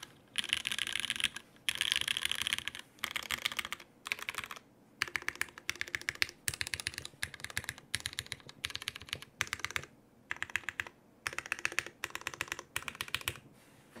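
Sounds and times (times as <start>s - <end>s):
mechanical keyboard typing: 0.0s - 13.4s.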